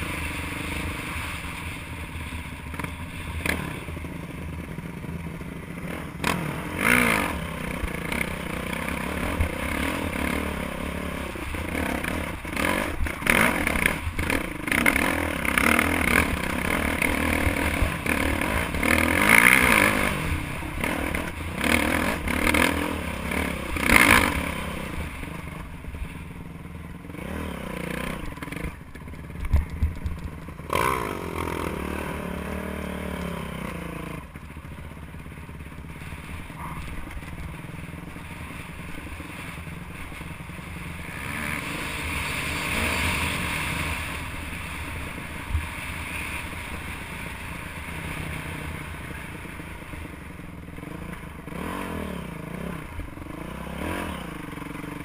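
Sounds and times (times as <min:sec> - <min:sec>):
dirt bike engine revving: 0:00.0 - 0:26.3, 0:27.0 - 0:55.0.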